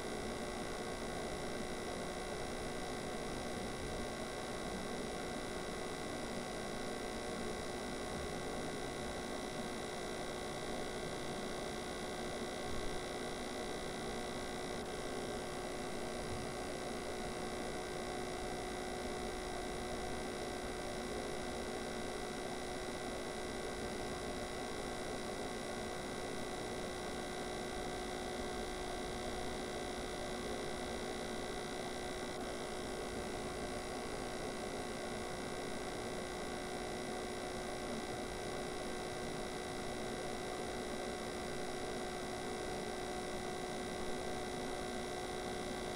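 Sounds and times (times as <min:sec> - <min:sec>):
steady hum of held tones: 0:00.0 - 0:45.9.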